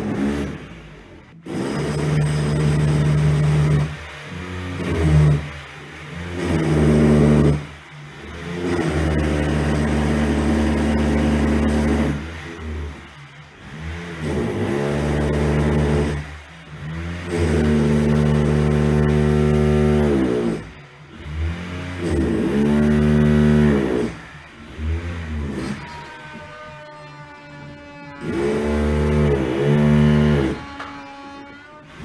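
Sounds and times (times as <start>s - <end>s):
electric drill whining: 1.5s - 32.0s.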